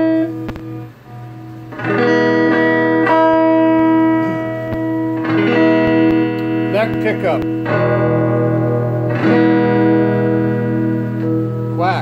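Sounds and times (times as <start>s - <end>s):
electric guitar chords strummed: 0.0s - 12.0s.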